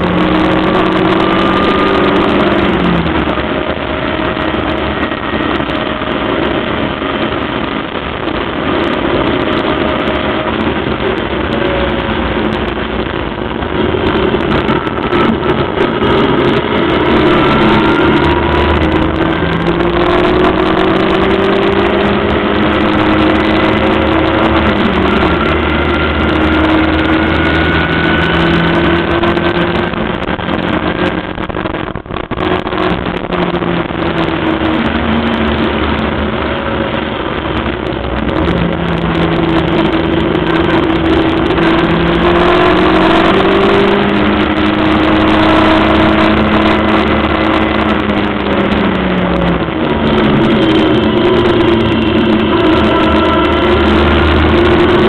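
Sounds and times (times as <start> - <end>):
race car engine revving: 0.0 - 55.0
wind and road noise: 0.0 - 55.0.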